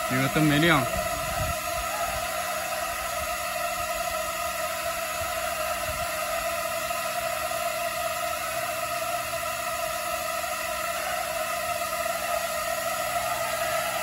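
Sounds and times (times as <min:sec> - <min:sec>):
drones whirring hum: 0:00.0 - 0:14.0.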